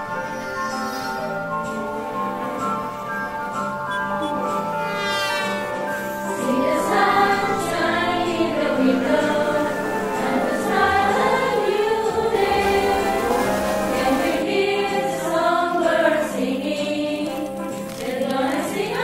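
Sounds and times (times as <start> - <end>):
music with choir singing: 0.0 - 19.0.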